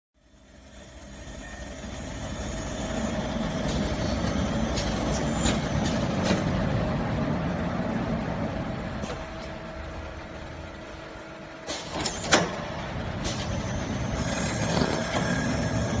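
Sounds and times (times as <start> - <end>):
machine mechanical hum: 0.2 - 16.0.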